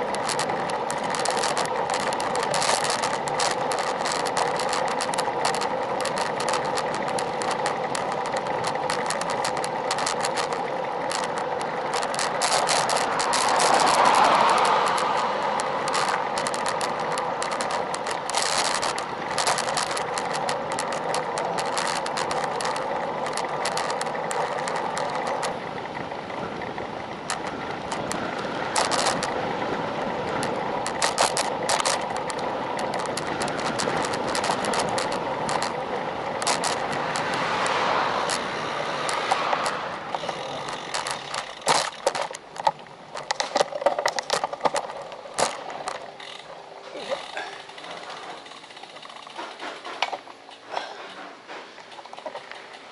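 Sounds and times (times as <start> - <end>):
bike clicks and knocks: 0.0 - 52.9
bike rattling clicks: 0.0 - 52.9
wind and tyre noise: 0.0 - 52.9.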